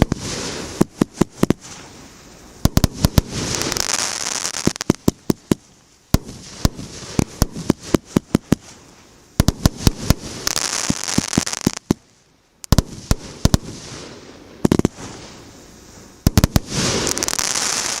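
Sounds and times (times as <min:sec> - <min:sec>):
fireworks bangs: 0:00.0 - 0:08.8, 0:09.4 - 0:12.1, 0:12.7 - 0:15.4, 0:16.2 - 0:18.0
hissing crackle of fireworks: 0:00.0 - 0:18.0.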